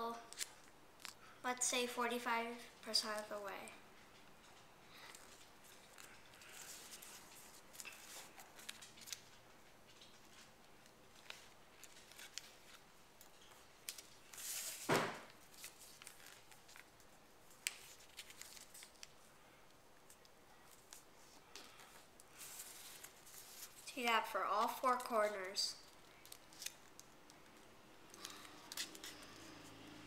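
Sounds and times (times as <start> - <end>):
paper crinkling and creasing: 0.3 - 1.2, 4.1 - 23.9, 24.6 - 29.8.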